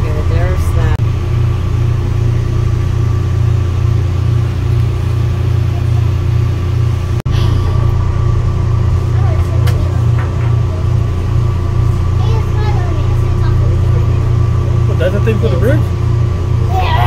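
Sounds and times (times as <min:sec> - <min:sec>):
constant humming tones: 0:00.0 - 0:17.0
train car rumble and hum: 0:00.0 - 0:17.0.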